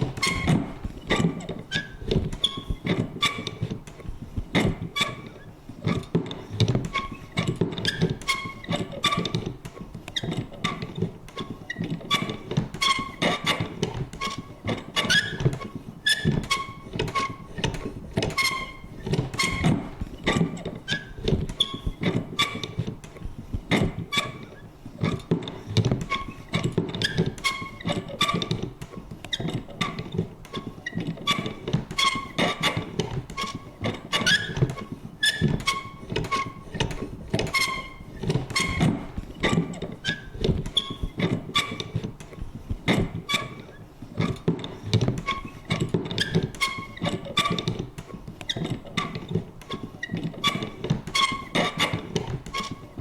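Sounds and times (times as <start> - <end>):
paper punch mechanism creaking: 0.0 - 53.0
paper punch clicks and thunks: 5.9 - 53.0.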